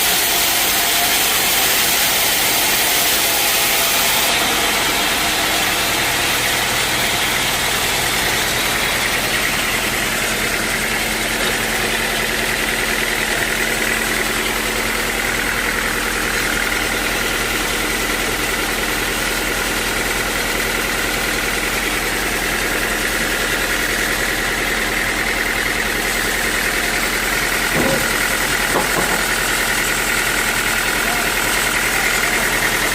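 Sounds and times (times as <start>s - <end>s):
sawmill machinery humming and whining: 0.0s - 32.9s.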